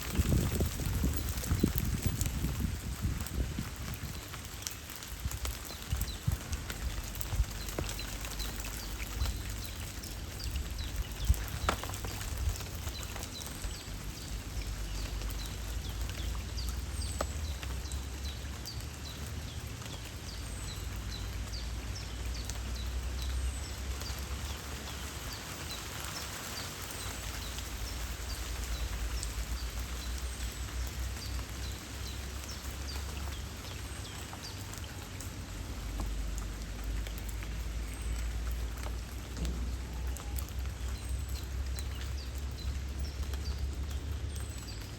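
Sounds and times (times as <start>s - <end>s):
light rain patter: 0.0s - 44.9s.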